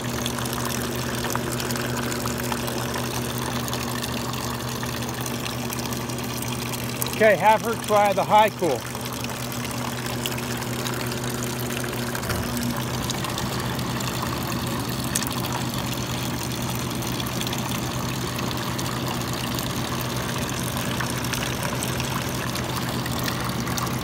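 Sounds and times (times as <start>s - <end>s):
cooler blower humming: 0.0s - 24.0s
hose water splashing: 0.0s - 24.0s.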